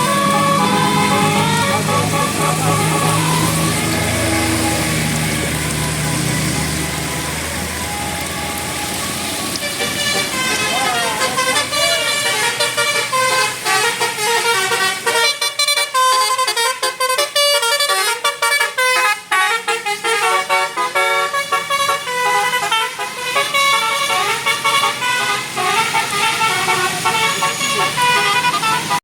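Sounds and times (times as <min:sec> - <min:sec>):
musical bus horn melody: 0:00.0 - 0:29.0.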